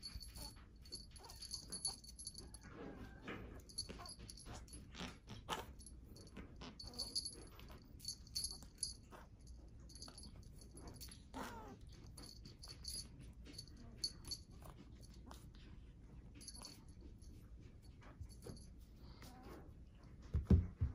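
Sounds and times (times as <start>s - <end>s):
small bell jingling: 0.0s - 15.4s, 16.4s - 18.8s
light clicks and rattles: 0.0s - 19.2s.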